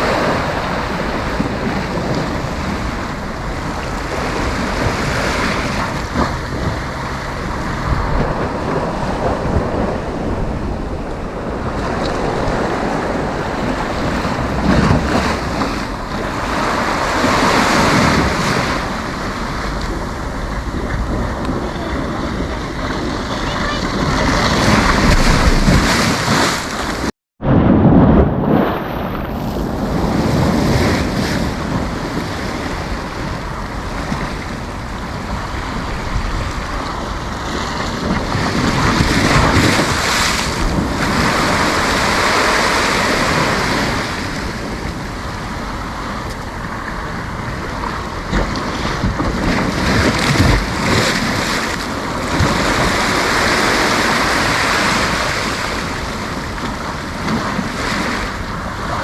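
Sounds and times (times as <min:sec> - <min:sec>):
sea waves breaking on beach: 0:00.0 - 0:59.0
wind buffeting microphone: 0:00.0 - 0:59.0.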